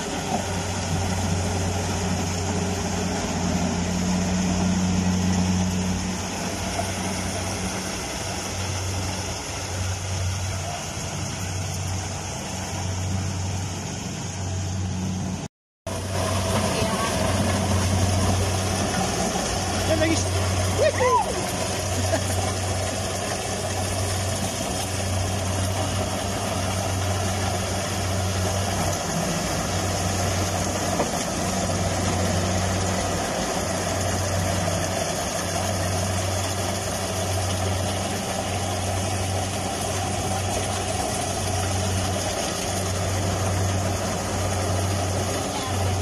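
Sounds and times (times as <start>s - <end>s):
combine harvester running: 0.0s - 46.0s.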